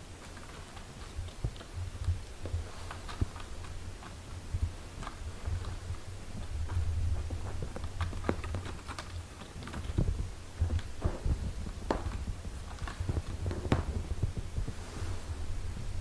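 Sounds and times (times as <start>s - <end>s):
kittens suckling clicks and smacks: 0.0s - 14.7s
low continuous rumble: 0.0s - 16.0s.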